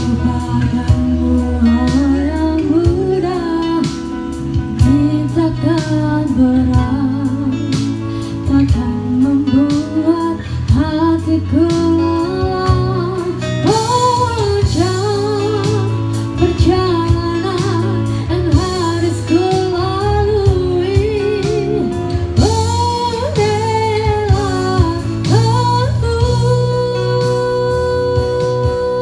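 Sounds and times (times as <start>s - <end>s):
guitars: 0.0s - 29.0s
woman singing: 0.0s - 29.0s.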